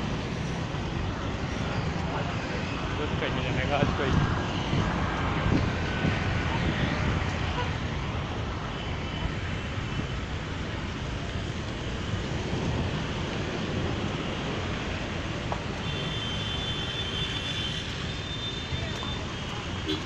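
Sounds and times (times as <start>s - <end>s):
cars passing on wet road: 0.0s - 20.0s.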